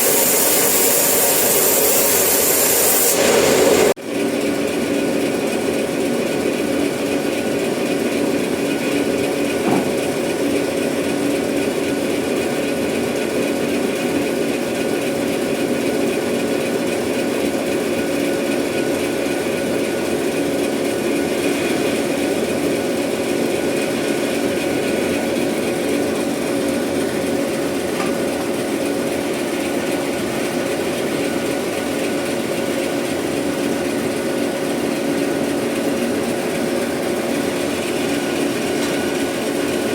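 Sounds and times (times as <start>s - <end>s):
sawmill saw drone: 0.0s - 39.9s.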